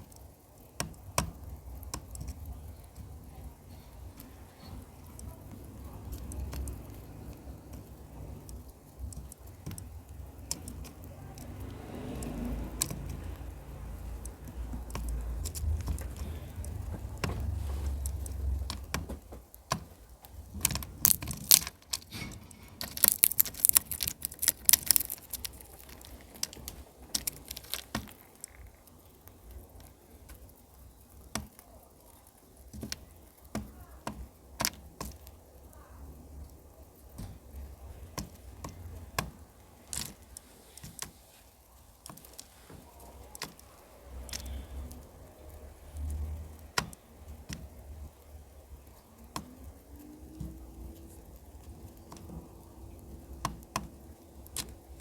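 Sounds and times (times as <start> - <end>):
bird cracking seeds: 0.0 - 55.0.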